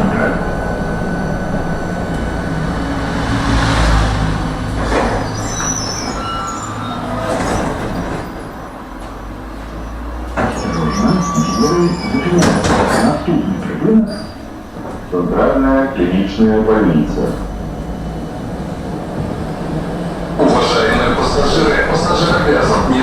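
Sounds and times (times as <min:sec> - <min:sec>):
high wheel squeals: 0:00.0 - 0:23.0
tram wheels and motor rumbling: 0:00.0 - 0:23.0.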